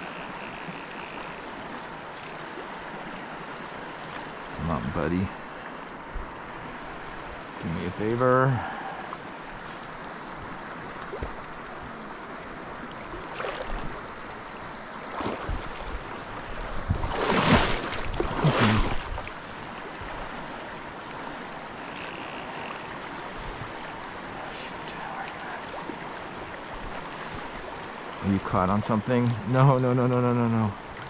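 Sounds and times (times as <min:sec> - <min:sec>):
river flowing over rocks: 0:00.0 - 0:28.3.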